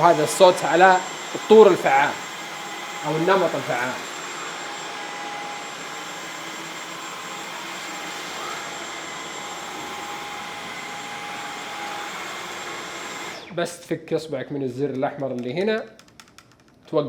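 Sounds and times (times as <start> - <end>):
cordless vacuum running: 0.0 - 13.7.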